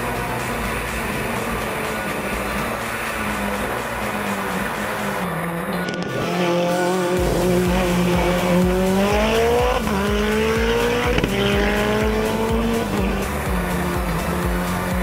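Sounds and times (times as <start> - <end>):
race car engine accelerating with upshifts: 0.0 - 15.0.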